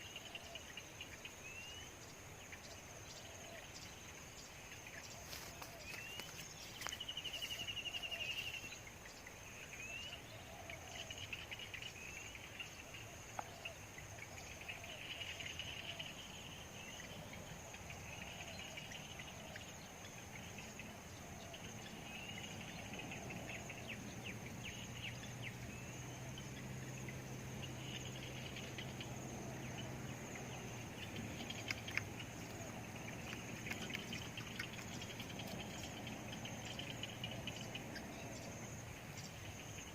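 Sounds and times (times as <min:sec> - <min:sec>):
insects chirping in trills: 0:00.0 - 0:39.9.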